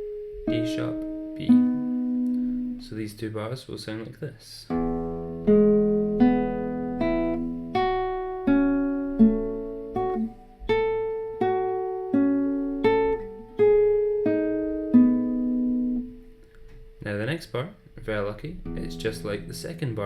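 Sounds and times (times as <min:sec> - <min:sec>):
fingerstyle guitar arpeggios: 0:00.0 - 0:02.9, 0:04.7 - 0:17.0, 0:18.6 - 0:20.0.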